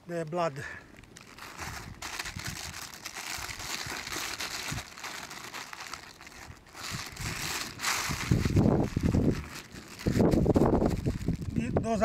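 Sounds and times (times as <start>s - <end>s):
plastic bag crinkling: 0.9s - 11.6s.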